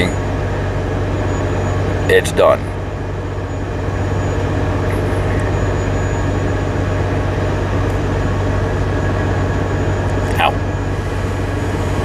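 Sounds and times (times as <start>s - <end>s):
mechanical drone with low hum: 0.0s - 12.0s.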